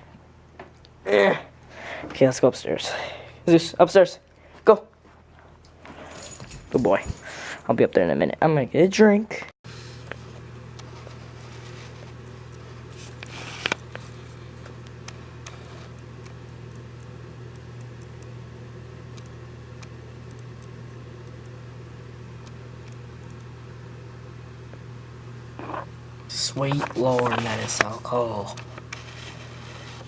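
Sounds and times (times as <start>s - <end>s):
low appliance hum: 0.0s - 30.0s.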